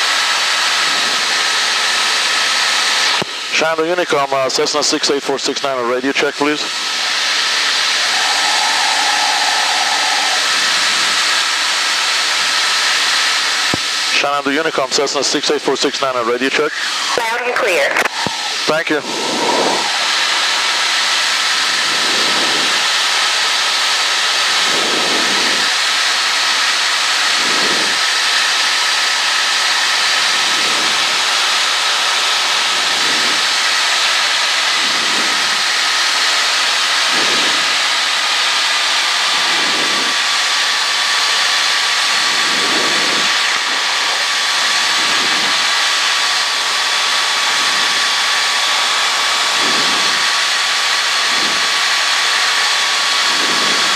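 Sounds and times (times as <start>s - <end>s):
aircraft engine and propeller droning: 0.0s - 53.9s.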